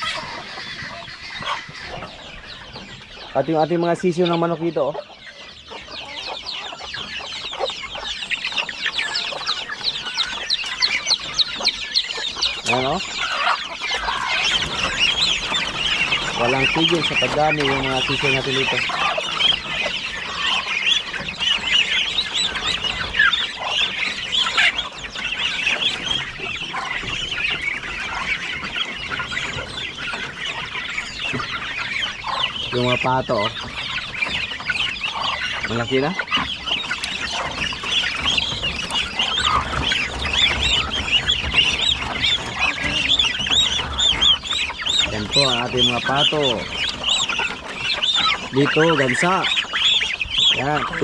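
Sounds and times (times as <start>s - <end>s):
chicks peeping: 0.0s - 51.0s
hen clucking: 0.0s - 51.0s.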